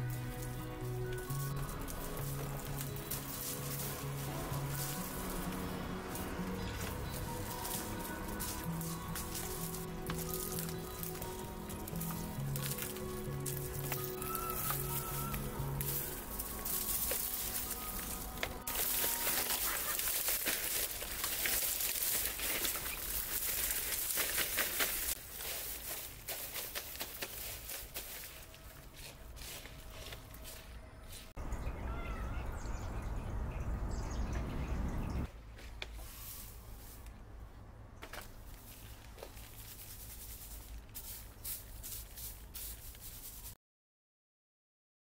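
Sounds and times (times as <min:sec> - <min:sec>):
dry plant stalks crackling: 0:00.0 - 0:31.4, 0:35.2 - 0:37.4, 0:38.0 - 0:43.6
soil rustling through metal sieve: 0:00.0 - 0:31.4, 0:35.6 - 0:37.2, 0:38.2 - 0:43.6.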